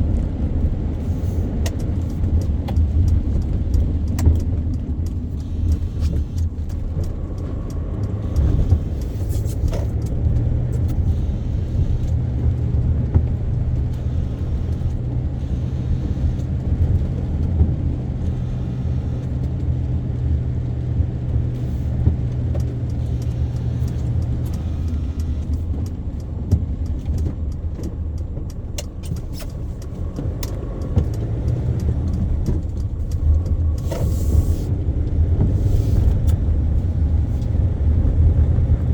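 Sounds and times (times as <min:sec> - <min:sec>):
small clicks and rattles: 0:00.0 - 0:38.4
car engine and road rumble: 0:00.0 - 0:38.9.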